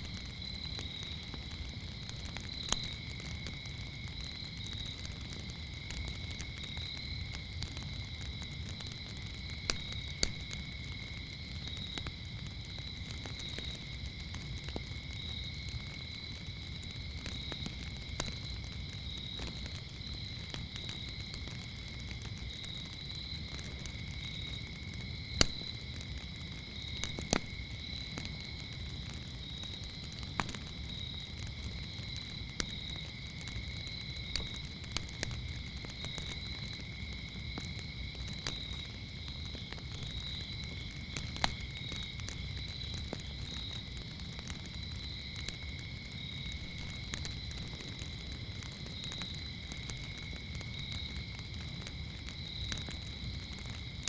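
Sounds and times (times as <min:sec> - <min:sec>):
crickets chirping: 0:00.0 - 0:54.0
sharp pops of fire: 0:00.0 - 0:54.0
wood fire crackling: 0:00.0 - 0:54.0.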